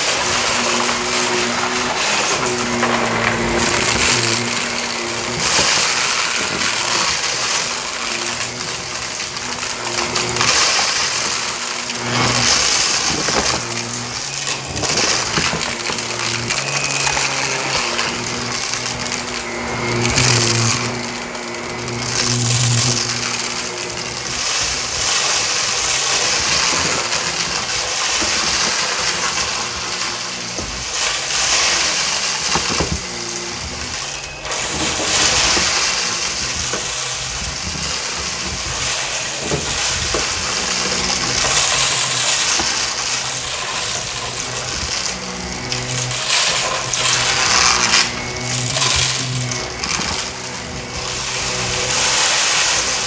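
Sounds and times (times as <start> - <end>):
debris crunching and clinking: 0.0 - 53.0
vacuum cleaner running: 0.0 - 53.0.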